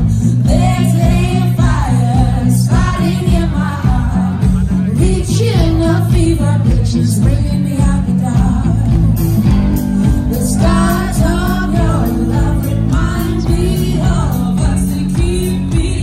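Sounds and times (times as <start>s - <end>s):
live rock band: 0.0s - 16.0s
woman singing: 0.0s - 16.0s.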